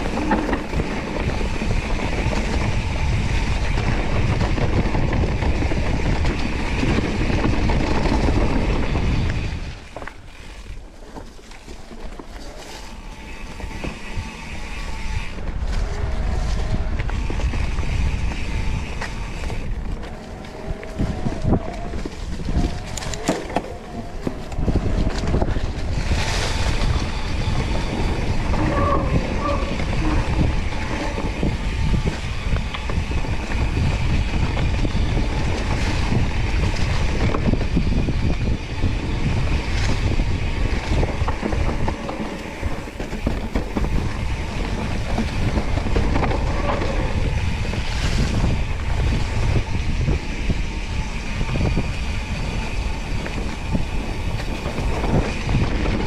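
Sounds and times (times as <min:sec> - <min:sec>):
bike rumbling and rattling: 0:00.0 - 0:56.0
wind rushing over microphone: 0:00.0 - 0:56.0.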